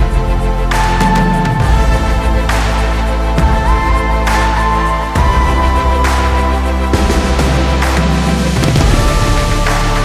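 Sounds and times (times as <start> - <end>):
deep bass line: 0.0 - 10.0
electronic beat: 1.1 - 10.0.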